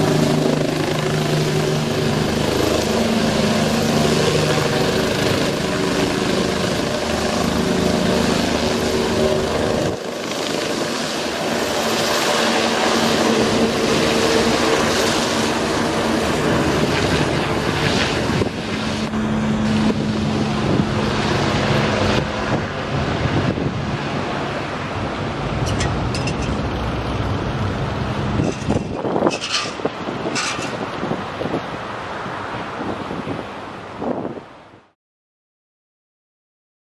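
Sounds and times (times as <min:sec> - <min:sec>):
helicopter rotor noise: 0:00.0 - 0:31.9.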